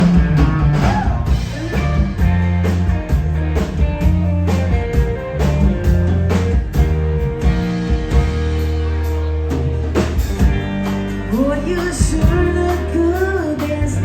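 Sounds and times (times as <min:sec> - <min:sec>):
bass guitar: 0:00.0 - 0:14.0
electric guitars: 0:00.0 - 0:14.0
steady drum beat: 0:00.0 - 0:14.0.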